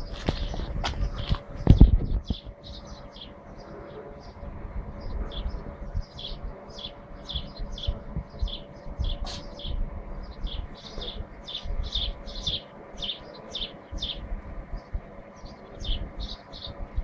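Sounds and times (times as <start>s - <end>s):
low rumbling noise: 0.0s - 17.0s
small birds chirping: 0.0s - 17.0s.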